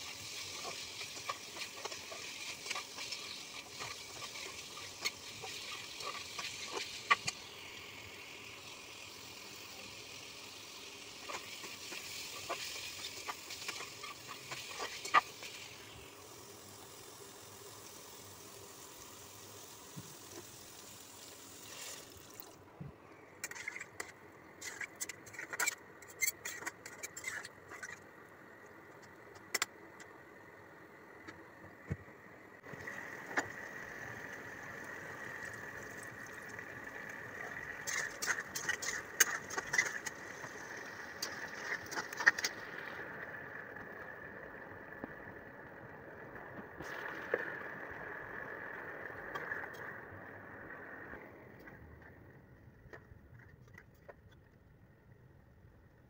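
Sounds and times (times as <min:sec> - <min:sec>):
steady hiss: 0:00.0 - 0:52.1.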